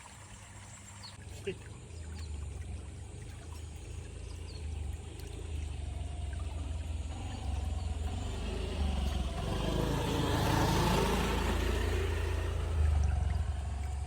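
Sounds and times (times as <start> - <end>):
motor vehicle passing by: 2.1 - 14.0.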